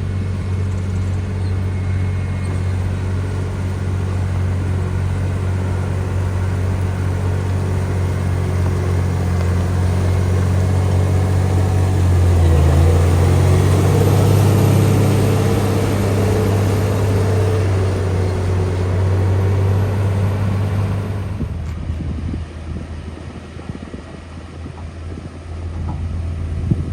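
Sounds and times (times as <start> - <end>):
heavy machinery diesel engine: 0.0 - 26.9.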